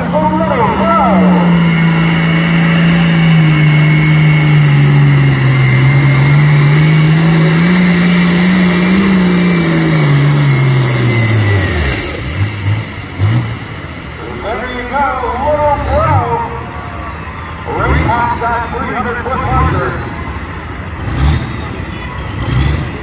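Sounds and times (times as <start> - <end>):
tractor engine running flat out: 0.0 - 23.0.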